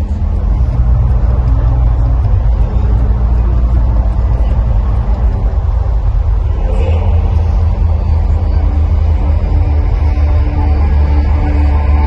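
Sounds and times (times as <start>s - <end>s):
low droning tone: 0.0s - 12.0s.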